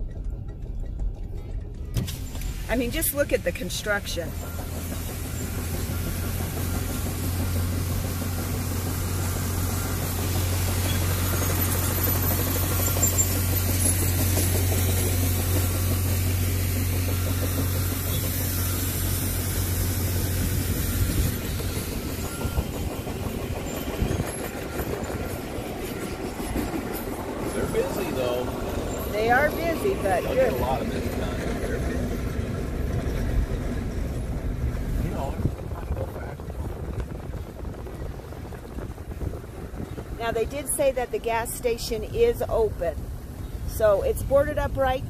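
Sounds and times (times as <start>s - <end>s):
car engine drone: 0.0s - 45.0s
road noise: 0.0s - 45.0s.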